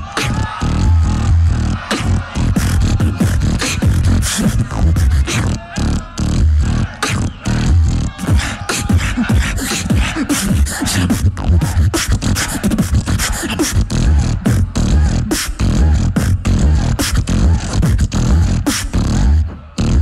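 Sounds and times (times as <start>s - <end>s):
beatboxing into a microphone: 0.0s - 20.0s.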